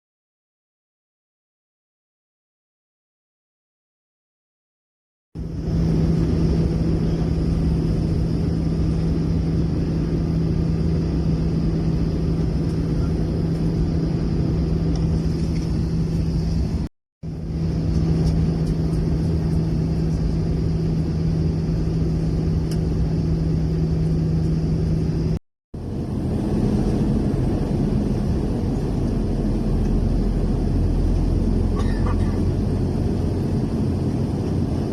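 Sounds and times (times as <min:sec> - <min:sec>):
vehicle engine rumbling: 0:05.4 - 0:34.9.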